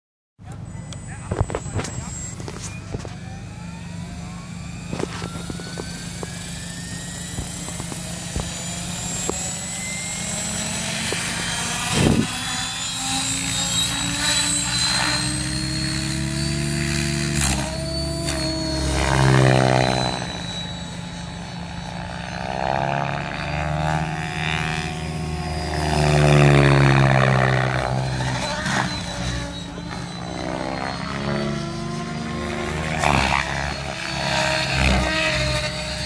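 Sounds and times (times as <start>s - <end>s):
motor and gear whine: 0.4s - 36.0s
rotor whoosh: 1.1s - 36.0s.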